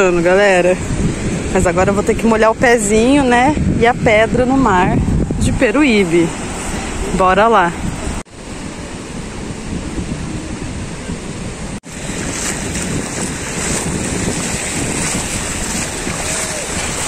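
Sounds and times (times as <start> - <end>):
shallow waves foaming around feet: 0.0 - 17.0
surf washing over sand: 0.0 - 17.0
wind noise on microphone: 0.0 - 17.0.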